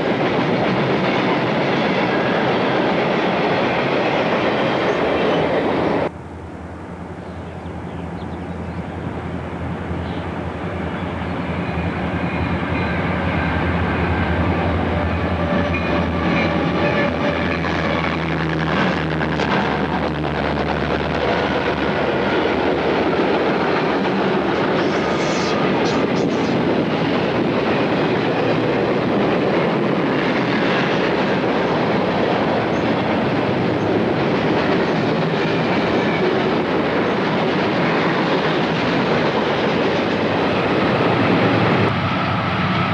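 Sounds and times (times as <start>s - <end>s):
train cars rolling by: 0.0s - 42.9s
train engine hum: 0.0s - 42.9s.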